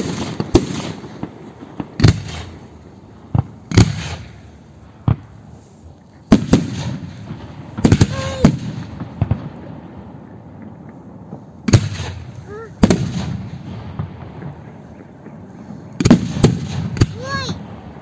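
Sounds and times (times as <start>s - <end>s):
firework bangs: 0.0s - 5.6s, 6.3s - 18.0s
firework crackling: 0.0s - 18.0s.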